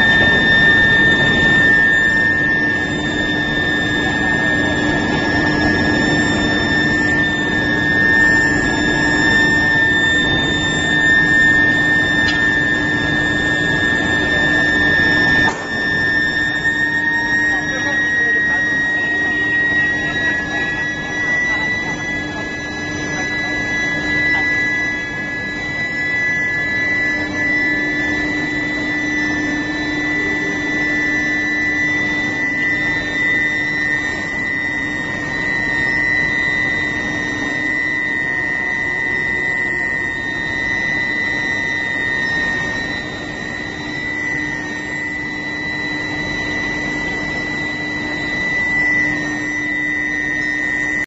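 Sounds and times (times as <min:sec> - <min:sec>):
din of machinery: 0:00.0 - 0:51.0
high-pitched whine of induction coils: 0:00.0 - 0:51.0.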